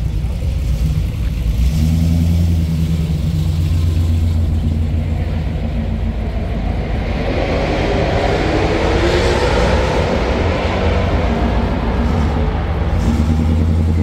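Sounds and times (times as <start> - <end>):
car engine revving: 0.0 - 14.0
deep engine rumble: 0.0 - 14.0.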